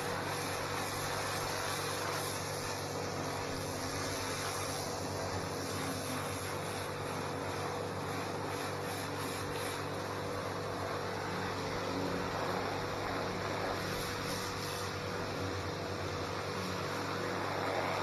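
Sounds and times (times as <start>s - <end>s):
pressure washer motor and pump drone: 0.0s - 18.0s
spraying water hiss: 0.0s - 18.0s.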